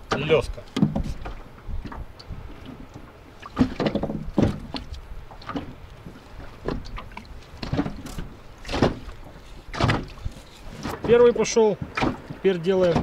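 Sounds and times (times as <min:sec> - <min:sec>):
small waves slapping a hull: 0:00.0 - 0:13.0.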